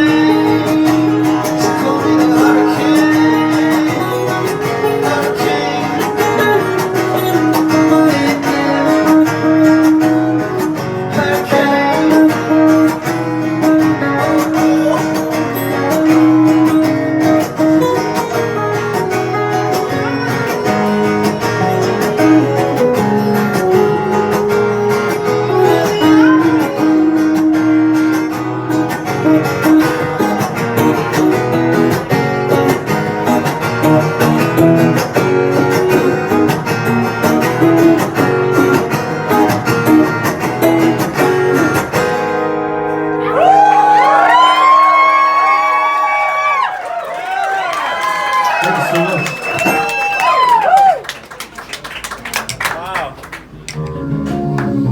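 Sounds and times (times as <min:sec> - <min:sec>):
acoustic guitar strummed and picked: 0:00.0 - 0:46.7.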